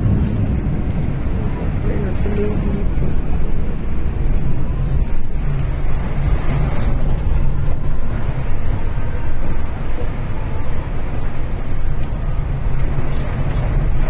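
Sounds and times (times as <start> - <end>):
bus diesel engine droning: 0.0 - 14.0.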